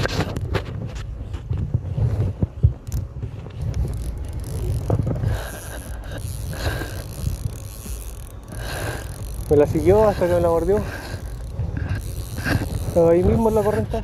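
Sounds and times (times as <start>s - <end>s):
wind on microphone: 0.0s - 14.0s
fishing reel whirring: 2.2s - 14.0s.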